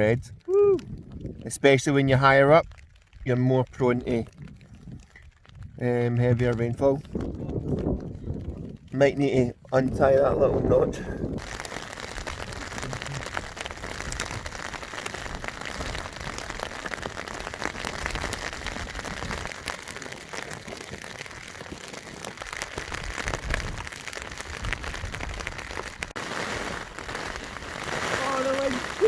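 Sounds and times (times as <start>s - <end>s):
rain drops pattering: 0.0s - 29.0s
wind rumbling on microphone: 0.0s - 29.0s.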